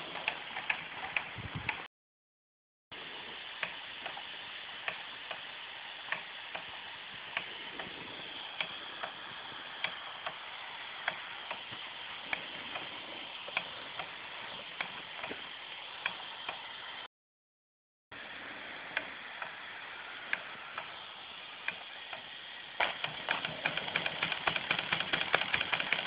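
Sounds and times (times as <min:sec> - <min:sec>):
steam engine hissing and ticking: 0:00.0 - 0:01.9, 0:02.9 - 0:17.1, 0:18.2 - 0:26.0.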